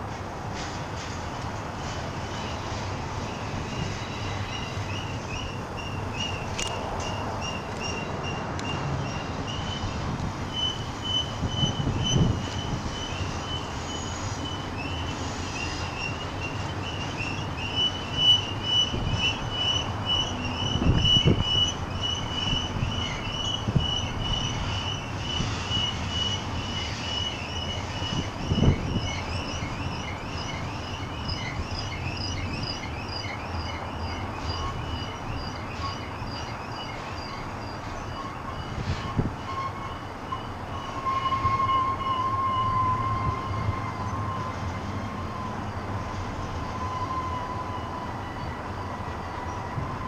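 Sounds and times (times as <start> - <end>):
freight train rumbling past: 0.0 - 50.0
high wheel squeal: 1.9 - 50.0.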